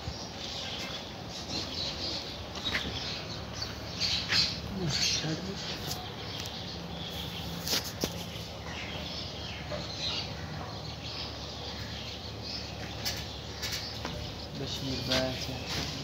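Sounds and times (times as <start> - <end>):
faint bird chirping: 0.0 - 16.0
steady background noise: 0.0 - 16.0.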